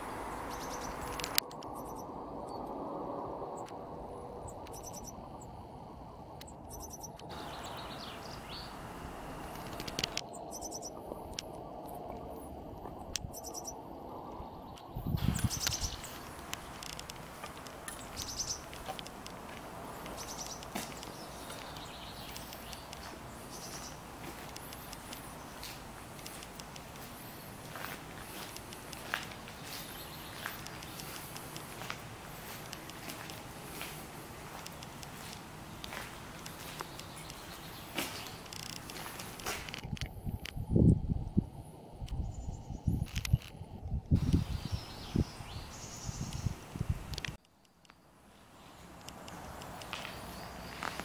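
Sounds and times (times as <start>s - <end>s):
small birds chirping: 0.0s - 2.8s, 4.4s - 5.6s, 6.3s - 11.4s, 13.1s - 39.6s, 44.1s - 51.0s
outdoor background noise: 0.0s - 51.0s.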